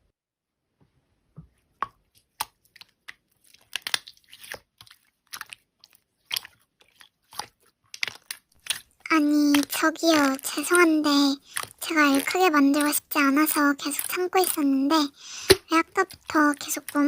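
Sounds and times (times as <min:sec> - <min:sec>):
slime crackling and popping: 0:02.2 - 0:17.0.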